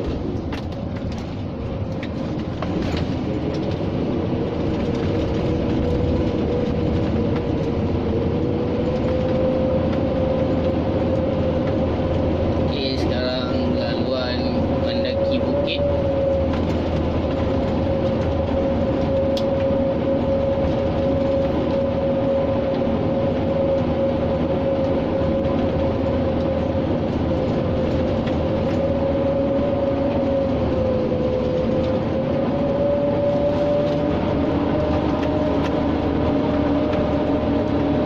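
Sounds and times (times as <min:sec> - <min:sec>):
truck diesel engine drone and whine: 0:00.0 - 0:38.0.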